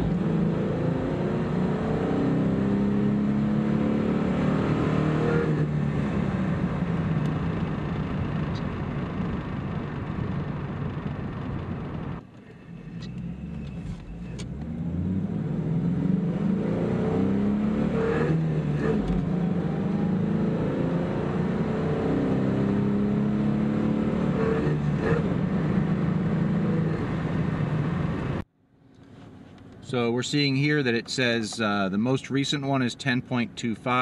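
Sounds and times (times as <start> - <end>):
car engine accelerating: 0.0 - 28.5.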